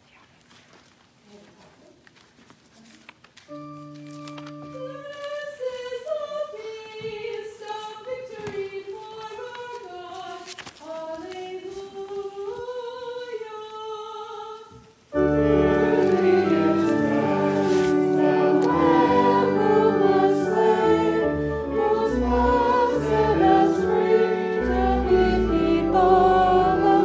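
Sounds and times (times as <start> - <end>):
hymn singing: 3.5 - 27.0.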